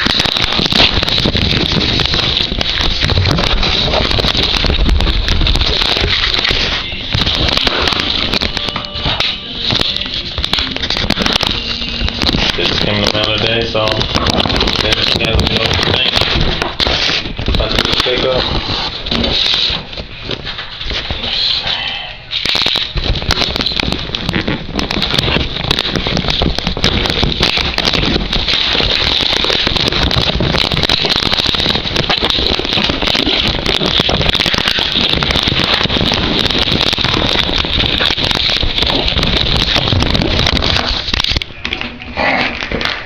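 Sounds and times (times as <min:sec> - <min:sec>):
package wrapping crackling: 0:00.0 - 0:43.0.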